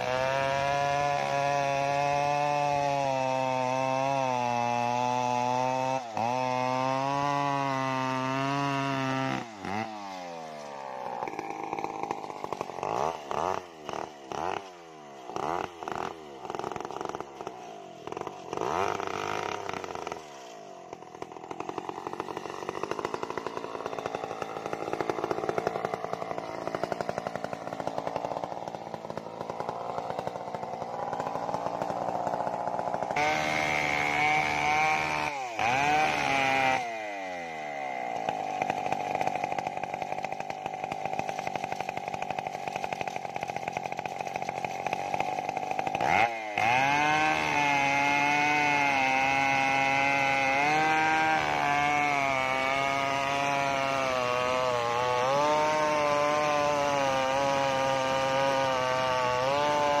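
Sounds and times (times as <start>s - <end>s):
chainsaw cutting wood: 0.0s - 60.0s.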